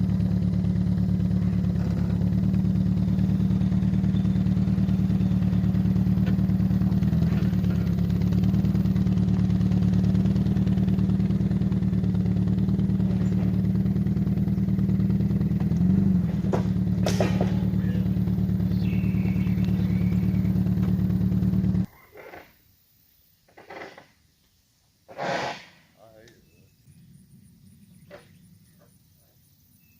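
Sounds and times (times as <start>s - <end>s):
vehicle engine running: 0.0s - 21.9s, 26.1s - 29.9s.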